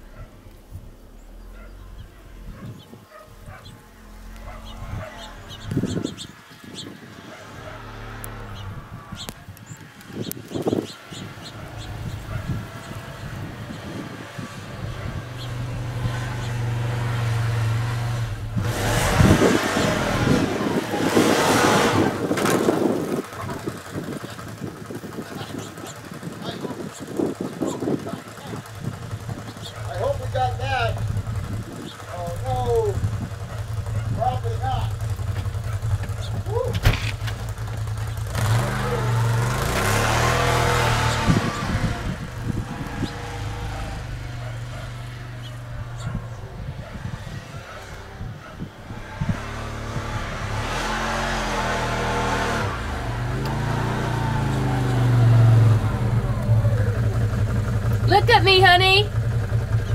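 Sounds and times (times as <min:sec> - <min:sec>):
quad engine revving: 0:00.0 - 0:59.9
snow spraying and tyre noise: 0:00.0 - 0:59.9.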